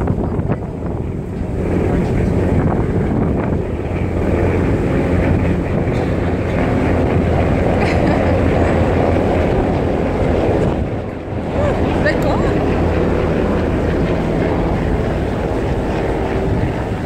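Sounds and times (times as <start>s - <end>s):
helicopter rotor rumble: 0.0s - 17.0s.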